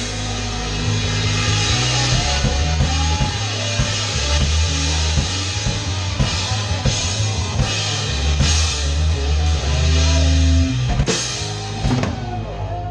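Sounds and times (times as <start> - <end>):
live rock band: 0.0 - 12.9.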